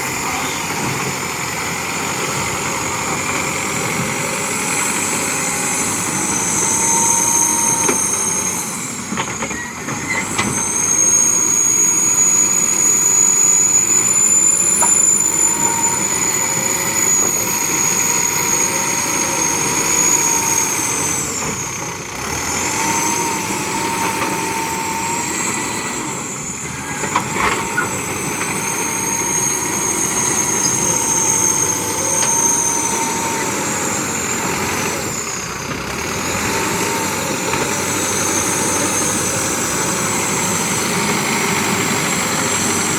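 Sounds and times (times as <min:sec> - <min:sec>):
backhoe diesel engine whining: 0:00.0 - 0:42.9.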